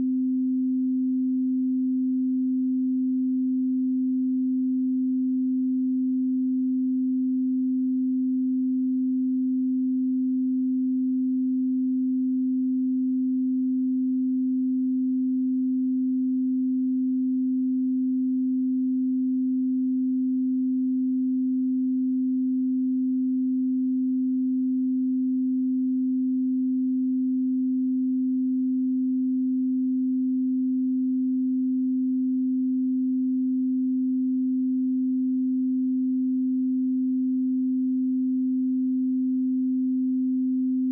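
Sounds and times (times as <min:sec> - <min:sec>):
sine wave test tone: 0:00.0 - 0:40.9.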